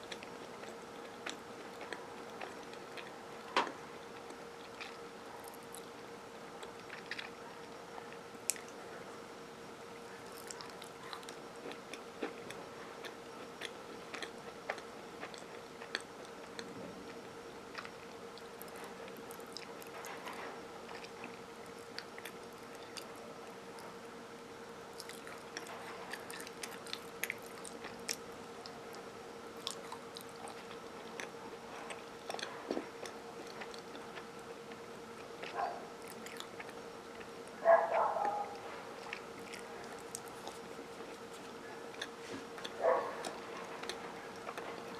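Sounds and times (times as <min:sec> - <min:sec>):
chewing crunchy cookies: 0:00.0 - 0:44.9.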